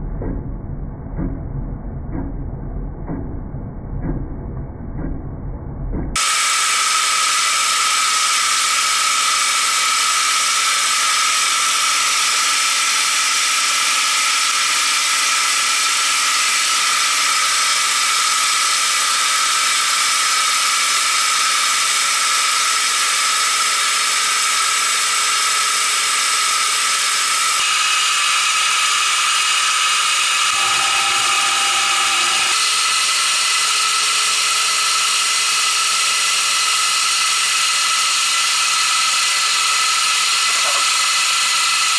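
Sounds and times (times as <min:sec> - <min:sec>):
milling machine whining: 0:06.2 - 0:41.9.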